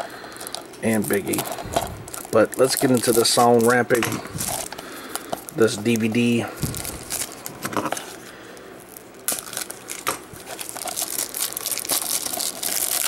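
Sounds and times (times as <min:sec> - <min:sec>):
plastic wrap crinkling and tearing: 0:00.0 - 0:13.0.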